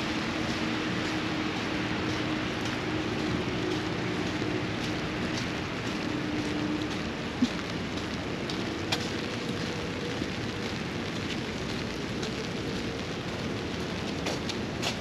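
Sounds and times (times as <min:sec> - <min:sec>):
steady rain hiss: 0:00.0 - 0:15.0
sharp drip ticks: 0:00.2 - 0:15.0.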